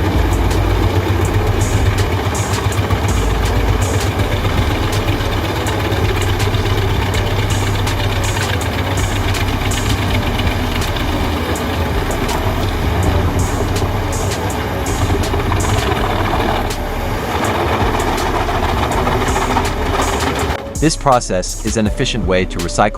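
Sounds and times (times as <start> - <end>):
wood chipper engine humming: 0.0 - 20.6.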